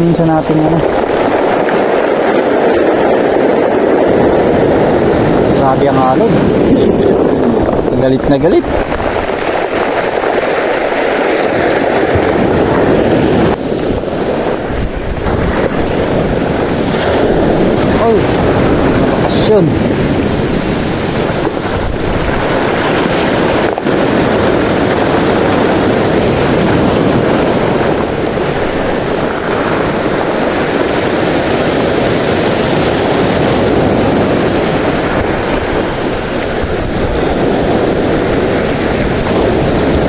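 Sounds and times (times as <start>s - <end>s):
heavy waves roaring: 0.0s - 40.0s
wind buffeting microphone: 0.0s - 40.0s.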